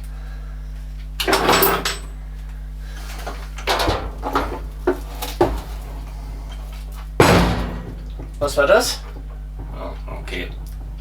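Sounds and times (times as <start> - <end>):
metallic clattering and knocks: 1.2 - 2.2, 3.0 - 11.0.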